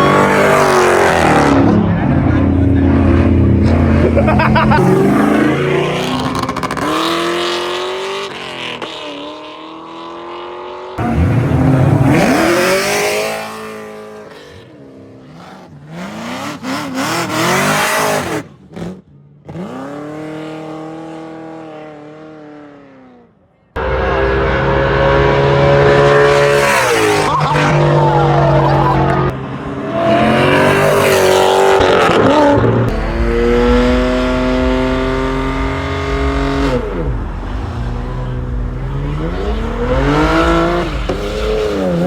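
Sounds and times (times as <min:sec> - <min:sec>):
car engines revving: 0:00.0 - 0:23.2, 0:23.8 - 0:42.0.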